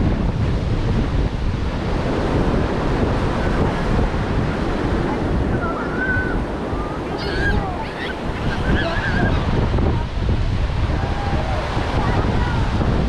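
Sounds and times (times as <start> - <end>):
ocean surf washing onto beach: 0.0 - 13.0
wind buffeting microphone: 0.0 - 13.0.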